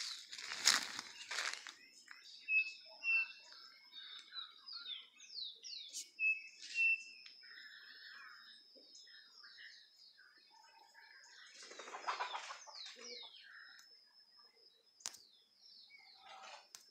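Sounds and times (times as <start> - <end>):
wild birds chirping and whistling: 0.0 - 16.9.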